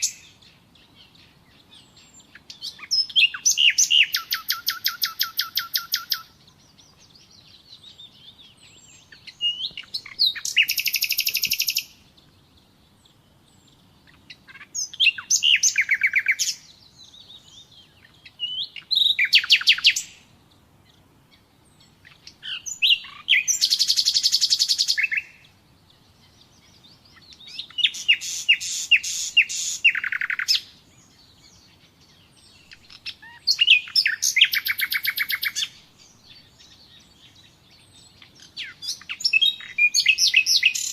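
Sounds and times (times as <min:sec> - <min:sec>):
nightingale singing: 0:00.0 - 0:40.9.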